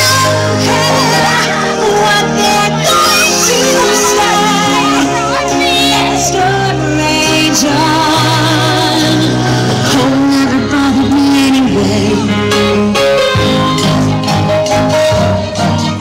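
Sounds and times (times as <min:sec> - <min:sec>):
instrumental music: 0:00.0 - 0:16.0
person singing with vibrato: 0:00.0 - 0:16.0.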